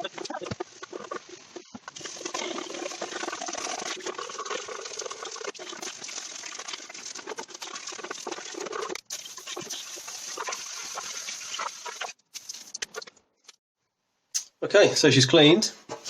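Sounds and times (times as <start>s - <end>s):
scrubbing and washing with water: 0.0s - 13.1s.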